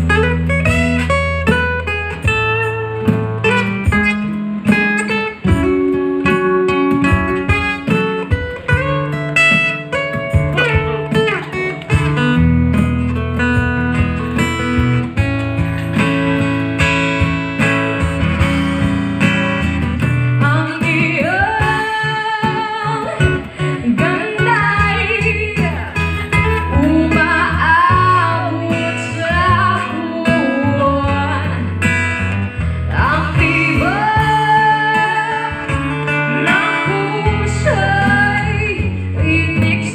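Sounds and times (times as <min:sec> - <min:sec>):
woman singing into a microphone: 0:00.0 - 0:12.5, 0:19.2 - 0:39.9
acoustic guitar picking: 0:00.0 - 0:39.9.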